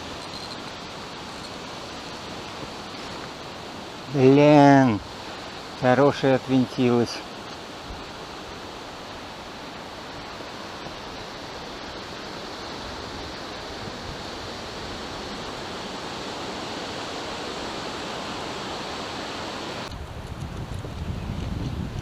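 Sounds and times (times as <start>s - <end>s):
river water rushing: 0.0s - 19.9s.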